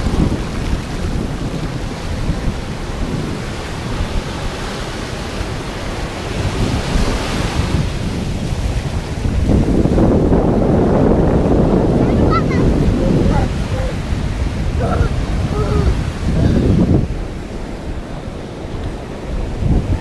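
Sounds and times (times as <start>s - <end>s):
waves breaking on sand and rocks: 0.0s - 20.0s
wind buffeting microphone: 0.0s - 20.0s.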